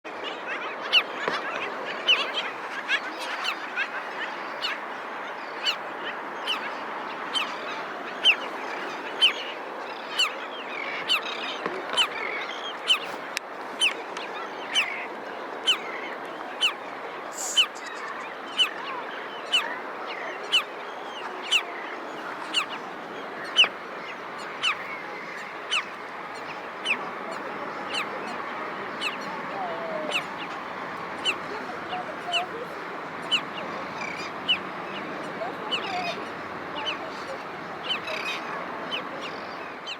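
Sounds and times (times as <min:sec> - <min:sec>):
chatter of many birds: 0:00.1 - 0:39.9
birds barking calls: 0:00.8 - 0:39.9.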